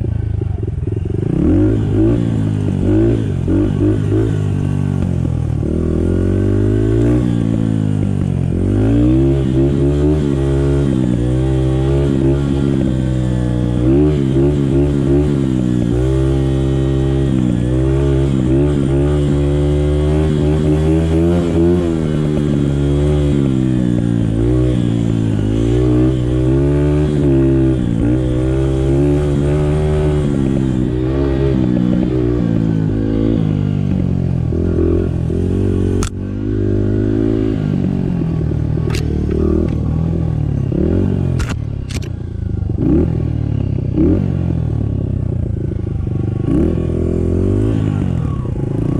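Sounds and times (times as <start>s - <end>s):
small dirt bike engine running: 0.0s - 48.9s.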